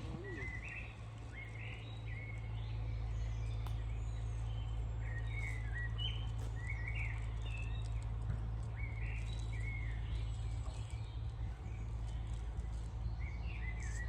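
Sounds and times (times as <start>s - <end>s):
songbirds chirping: 0.0s - 14.0s
steady low rumble: 0.0s - 14.0s.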